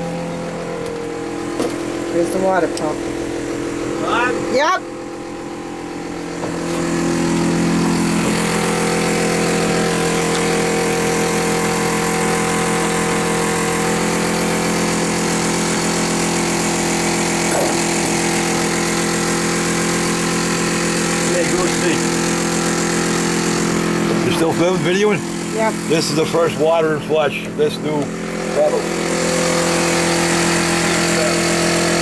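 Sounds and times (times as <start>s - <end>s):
water pump motor humming: 0.0s - 32.0s.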